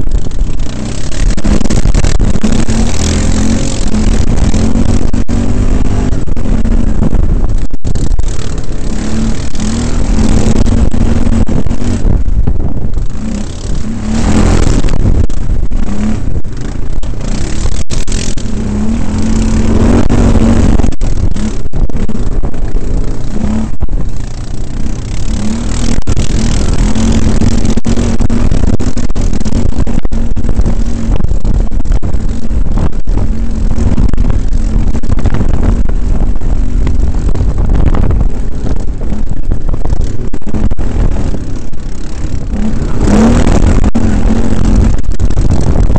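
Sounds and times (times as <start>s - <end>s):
quad bike engine at speed: 0.0s - 45.9s.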